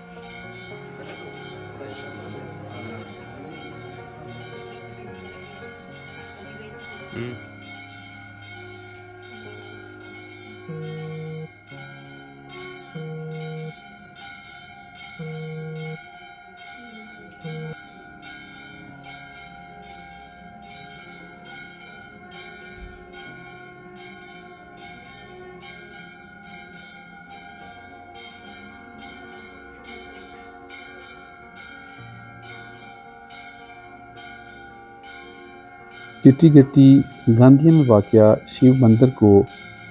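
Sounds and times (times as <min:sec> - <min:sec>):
low held notes: 0:00.0 - 0:16.0, 0:17.0 - 0:39.9
bells ringing: 0:00.0 - 0:39.9.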